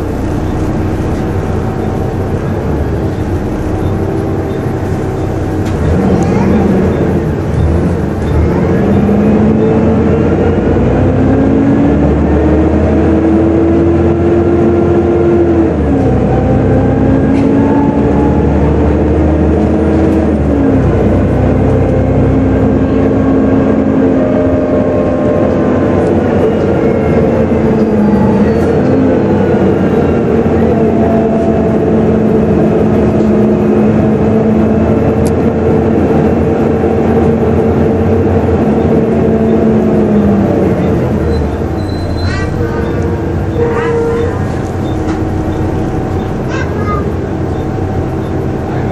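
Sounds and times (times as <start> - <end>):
bus engine whining through gears: 0.0 - 48.9.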